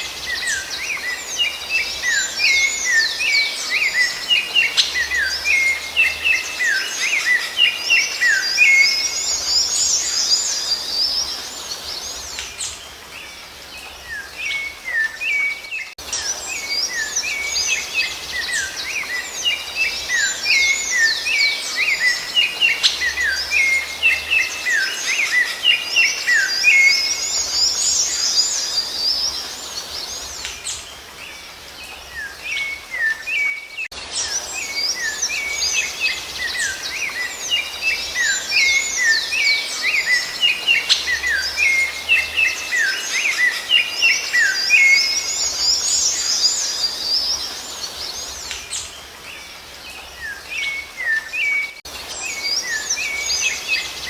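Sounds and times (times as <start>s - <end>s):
faint background hiss: 0.0s - 54.0s
songbirds chirping: 0.0s - 54.0s.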